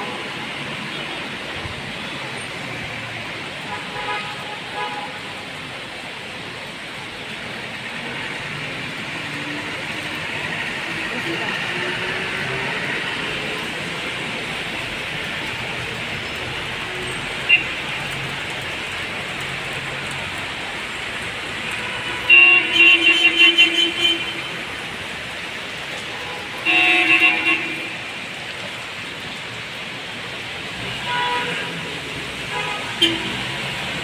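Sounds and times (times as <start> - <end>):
heavy rain: 0.0 - 34.0
street traffic: 0.0 - 34.0.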